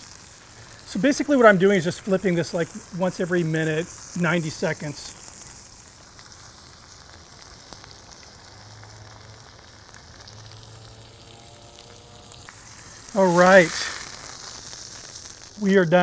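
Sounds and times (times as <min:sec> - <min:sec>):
steak sizzling on griddle: 0:00.0 - 0:16.0.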